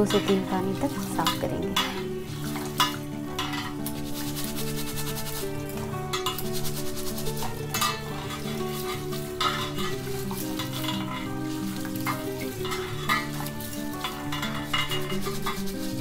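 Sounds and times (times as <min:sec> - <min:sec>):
background music with held notes: 0:00.0 - 0:16.0
rice swishing in water bowl: 0:00.0 - 0:16.0.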